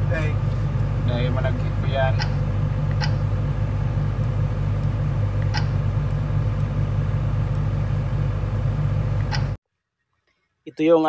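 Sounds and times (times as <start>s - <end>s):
diesel engine humming: 0.0s - 9.6s.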